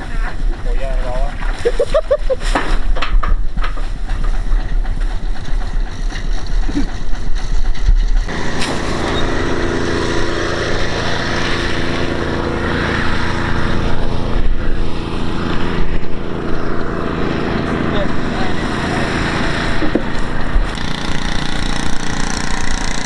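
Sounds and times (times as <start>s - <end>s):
deep uneven low rumbling: 0.0s - 23.0s
motor engine running: 0.0s - 23.0s.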